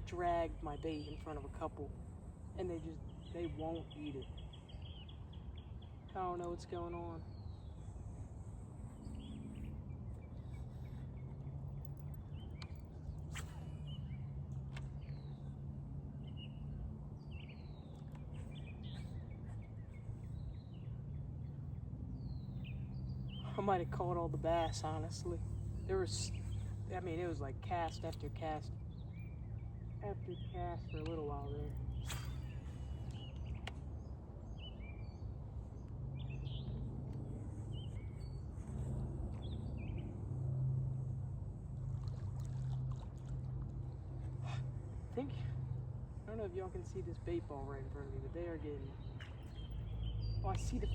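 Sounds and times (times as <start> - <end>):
birds chirping: 0.0 - 40.3, 42.0 - 50.9.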